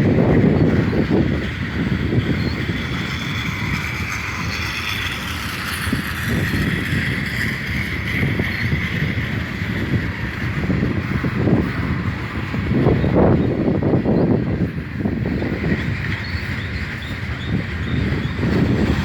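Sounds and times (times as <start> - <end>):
freight train rumbling by: 0.0 - 19.0
wheel clacks: 0.0 - 19.0.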